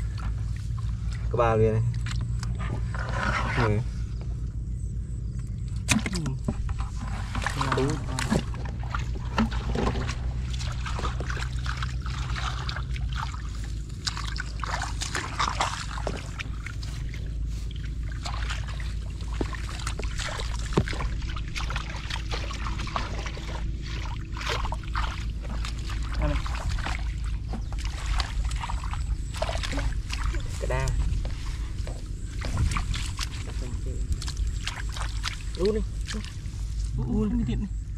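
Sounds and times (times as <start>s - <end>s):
steady low rumble: 0.0s - 37.9s
hands splashing in muddy water: 5.6s - 36.9s.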